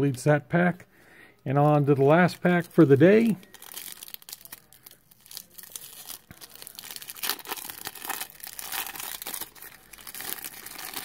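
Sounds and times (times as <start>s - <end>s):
waxed paper wrapper tearing and crinkling: 1.6s - 11.0s.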